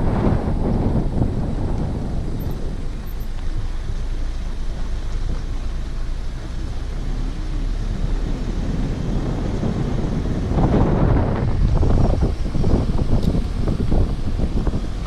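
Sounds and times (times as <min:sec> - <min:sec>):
vehicle low rumble: 0:00.0 - 0:15.0
wind buffeting microphone: 0:00.0 - 0:15.0.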